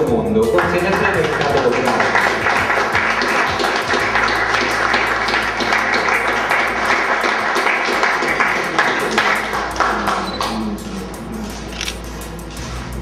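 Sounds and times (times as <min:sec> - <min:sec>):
audience applauding: 0:00.6 - 0:11.1.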